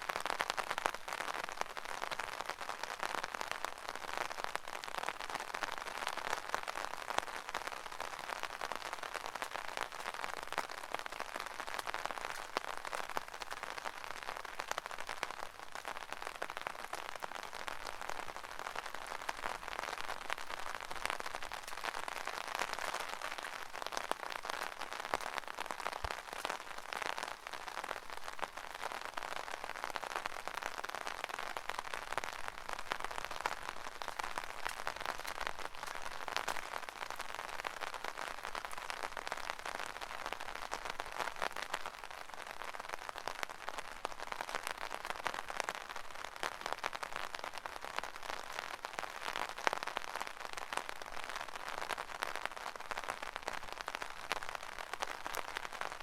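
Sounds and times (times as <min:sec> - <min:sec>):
rain pattering on an umbrella: 0:00.0 - 0:56.0.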